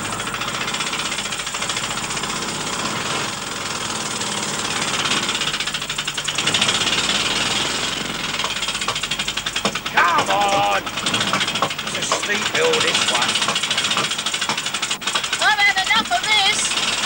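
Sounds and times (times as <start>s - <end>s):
motorcycle engine puttering: 0.0s - 17.0s.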